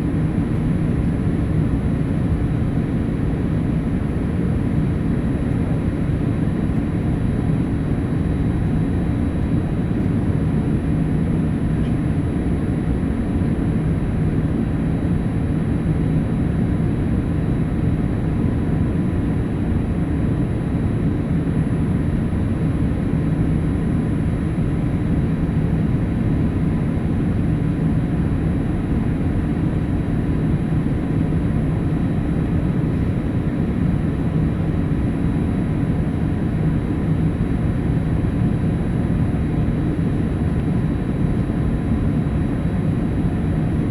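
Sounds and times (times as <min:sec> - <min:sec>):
airflow rush in aircraft cabin: 0:00.0 - 0:43.9
faint steady whines: 0:00.0 - 0:43.9
jet engine hum: 0:00.0 - 0:43.9.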